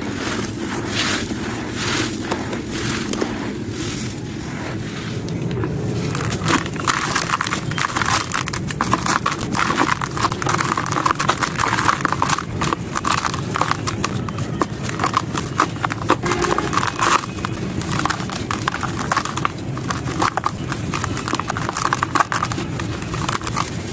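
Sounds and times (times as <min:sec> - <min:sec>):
sand-cement chunks crunching: 0:00.0 - 0:23.9.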